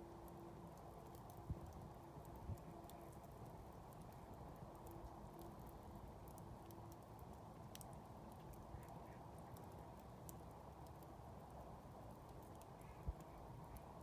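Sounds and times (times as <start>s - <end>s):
campfire crackling and popping: 0.1s - 14.0s.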